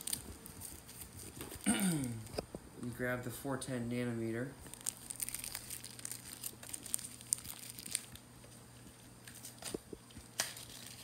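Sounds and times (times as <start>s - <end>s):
plastic bag crinkling: 0.0s - 2.5s, 4.6s - 11.0s.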